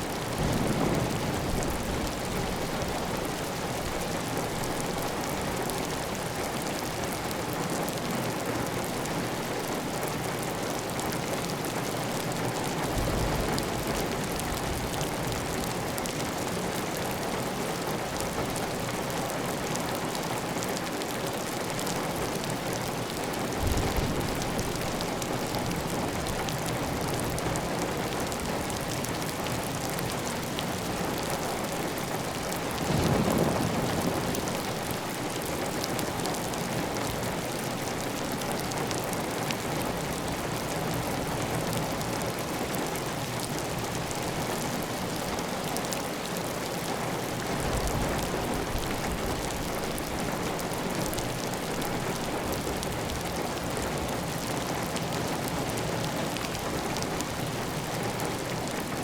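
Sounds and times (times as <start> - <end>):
heavy rain on a tile roof: 0.0 - 59.0.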